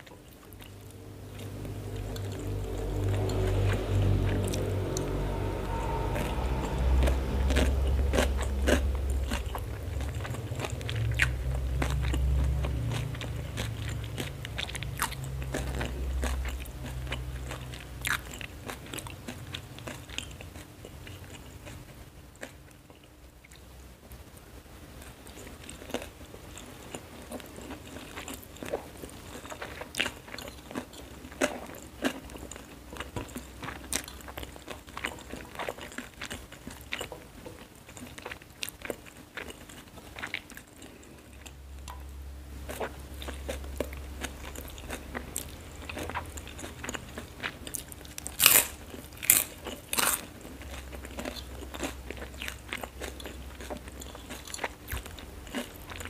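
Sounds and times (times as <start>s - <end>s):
chewing crunchy noodles: 0.0s - 4.6s, 5.3s - 23.7s, 25.0s - 56.0s.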